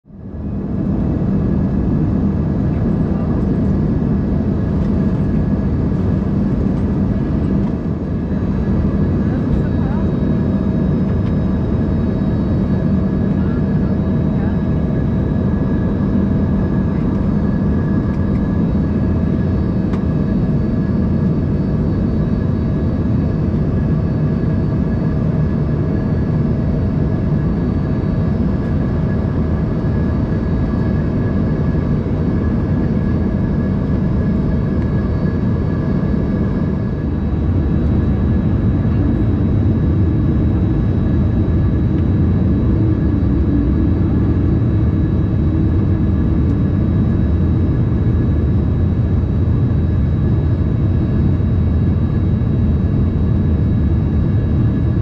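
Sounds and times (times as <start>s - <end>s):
airflow and jet engine rumble: 0.0s - 55.0s.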